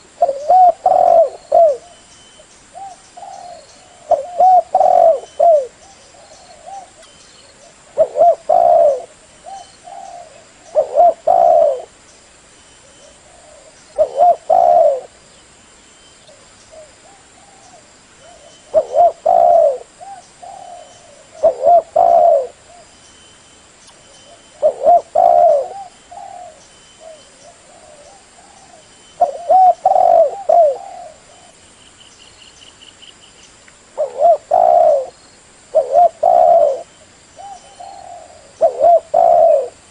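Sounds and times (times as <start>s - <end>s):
dove cooing: 0.0s - 2.0s, 2.7s - 12.0s, 12.8s - 15.2s, 16.3s - 22.9s, 24.2s - 31.6s, 34.0s - 39.9s
faint high bird chirping: 0.0s - 39.8s.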